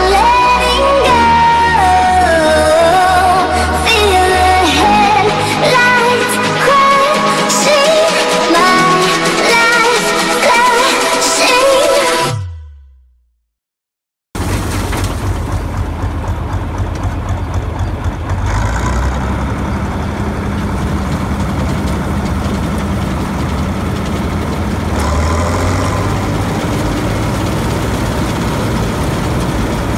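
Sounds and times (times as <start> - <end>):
diesel engine running: 0.0 - 12.4, 14.4 - 29.9.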